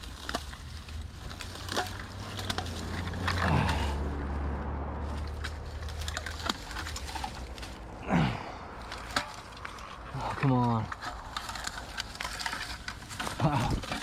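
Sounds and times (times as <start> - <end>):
light clicks and rustles: 0.0 - 4.3, 5.1 - 8.0, 8.7 - 14.0
vehicle passing with low hum: 0.0 - 13.6.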